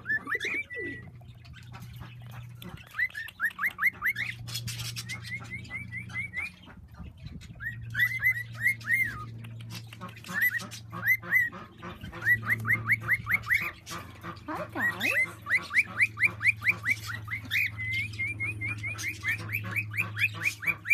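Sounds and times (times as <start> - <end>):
cockatiels chirping: 0.0 - 20.9.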